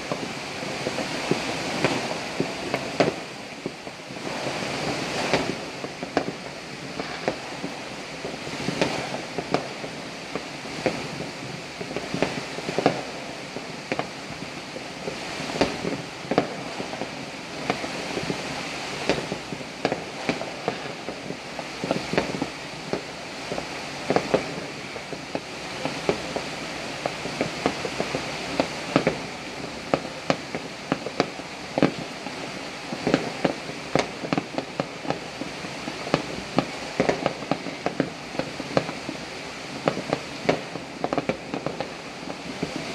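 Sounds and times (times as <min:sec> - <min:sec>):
fireworks popping and banging: 0:00.0 - 0:42.9
rain hissing: 0:00.0 - 0:42.9.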